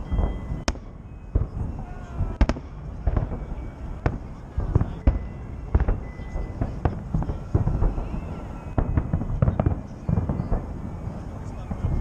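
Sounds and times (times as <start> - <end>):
fireworks booms and cracks: 0.0 - 12.0.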